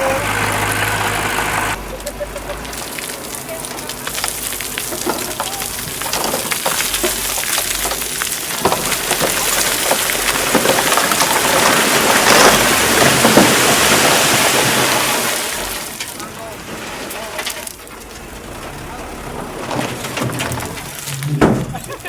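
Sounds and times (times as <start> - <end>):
rocks and soil tumbling from truck: 0.0 - 22.0.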